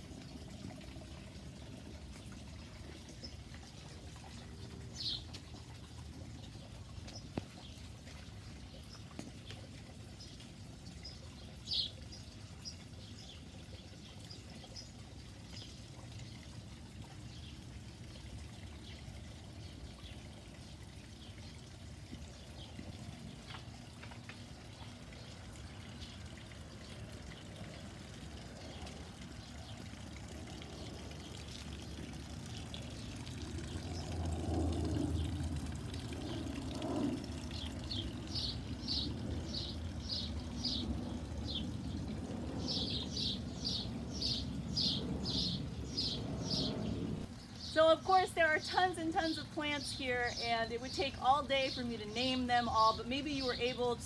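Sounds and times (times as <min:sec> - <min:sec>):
water splashing from small waterfall: 0:00.0 - 0:46.1
birds chirping: 0:00.1 - 0:54.0.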